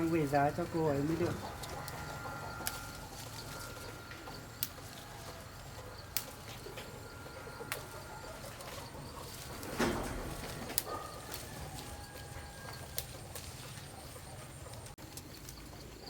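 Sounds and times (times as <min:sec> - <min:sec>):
birds calling: 0:00.0 - 0:16.0
rustle: 0:00.0 - 0:16.0.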